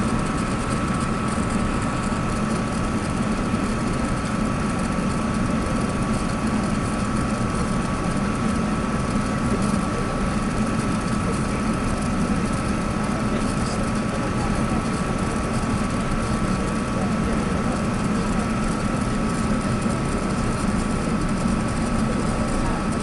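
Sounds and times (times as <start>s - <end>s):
aircraft cabin engine rush: 0.0s - 23.0s
high engine whine: 0.0s - 23.0s.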